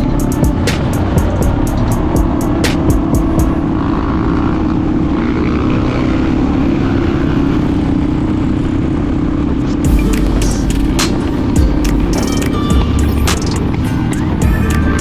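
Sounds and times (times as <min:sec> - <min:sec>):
motorcycle engine running: 0:00.0 - 0:15.0
wind rush and road noise: 0:00.0 - 0:15.0.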